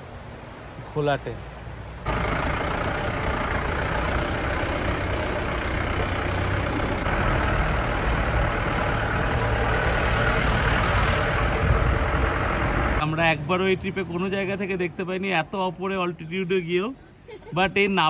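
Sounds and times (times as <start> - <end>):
flooded river roaring: 0.0 - 14.8.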